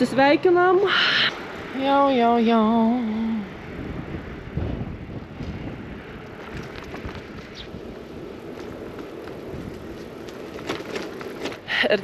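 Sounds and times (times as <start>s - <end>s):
bicycle tyre rumble: 0.0s - 12.0s
wind on microphone: 1.2s - 12.0s.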